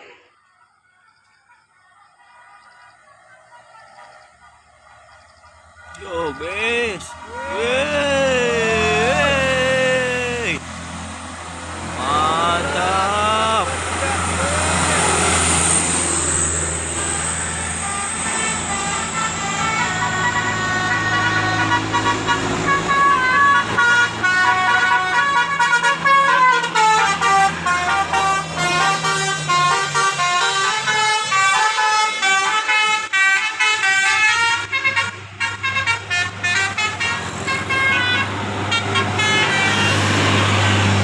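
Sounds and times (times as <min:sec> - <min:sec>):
bus engine running: 0:02.7 - 0:41.0
bus horn playing a tune: 0:06.0 - 0:41.0.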